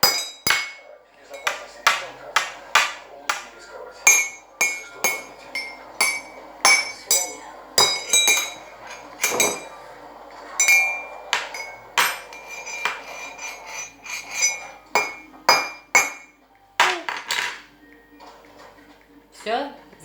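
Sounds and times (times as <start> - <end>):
spoon banging on table and mugs: 0.0 - 9.8, 10.5 - 17.7.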